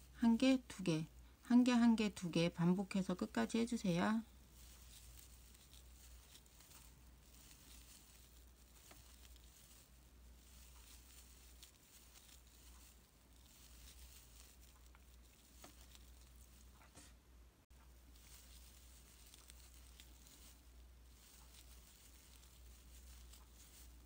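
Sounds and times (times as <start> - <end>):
crochet hook rustling yarn: 0.0 - 24.0.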